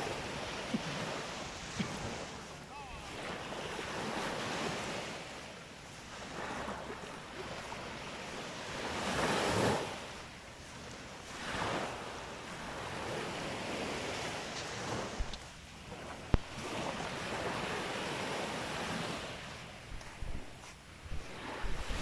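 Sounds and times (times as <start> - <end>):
sea waves breaking on beach: 0.0 - 22.0.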